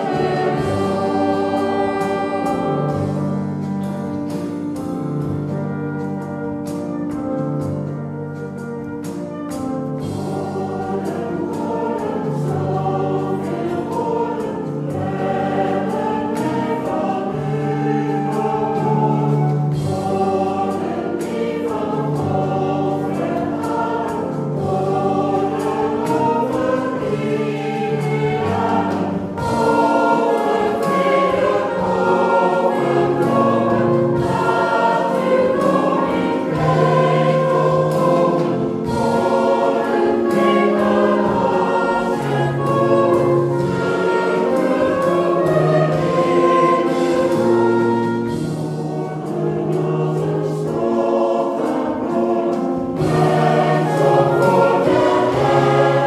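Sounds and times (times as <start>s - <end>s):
mixed choir singing: 0.0s - 7.3s, 8.8s - 56.0s
piano: 0.0s - 56.0s.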